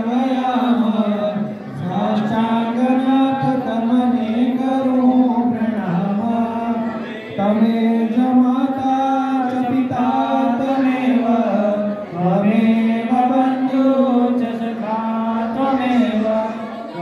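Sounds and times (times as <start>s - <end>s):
voices chanting a hymn: 0.0s - 17.0s.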